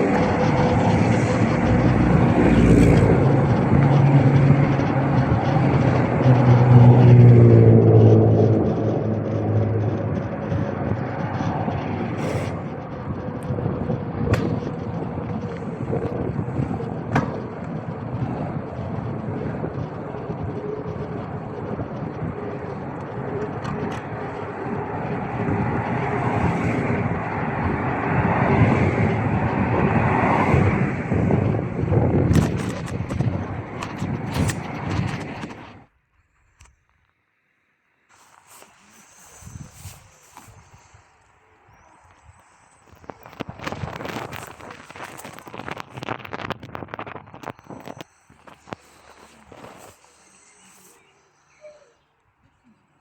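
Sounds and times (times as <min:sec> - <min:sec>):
passing vehicles: 0:00.0 - 0:35.9, 0:38.1 - 0:53.0
wind on microphone: 0:00.0 - 0:35.9, 0:38.2 - 0:52.0.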